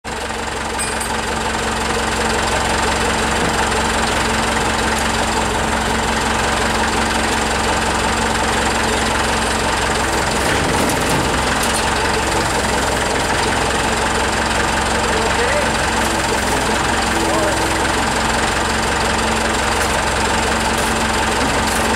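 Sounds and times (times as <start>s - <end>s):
engine idling: 0.1s - 21.9s.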